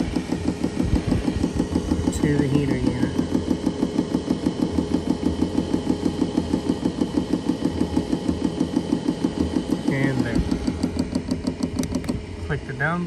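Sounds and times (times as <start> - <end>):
fuel pump clicking rapidly: 0.0 - 13.0.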